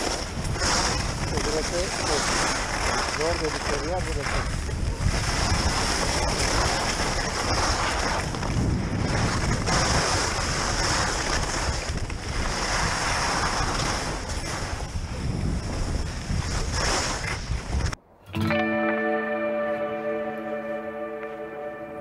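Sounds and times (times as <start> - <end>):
skis sliding on snow: 0.0 - 18.0
wind on microphone: 0.0 - 18.0.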